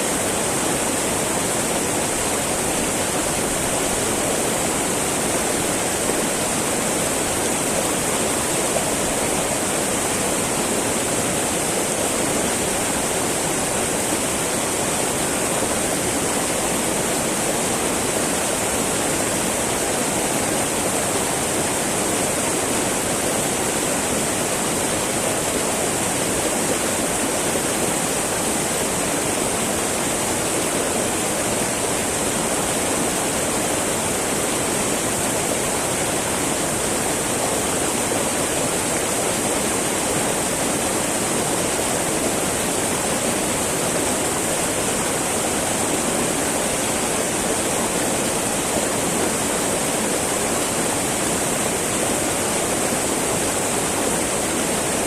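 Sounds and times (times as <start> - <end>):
river babbling over rocks: 0.0 - 55.0.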